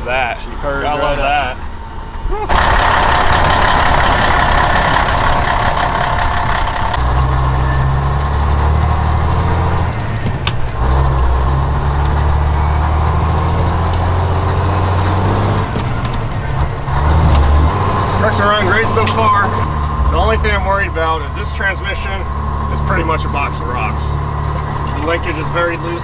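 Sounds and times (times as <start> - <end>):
truck engine drone: 0.0 - 26.0.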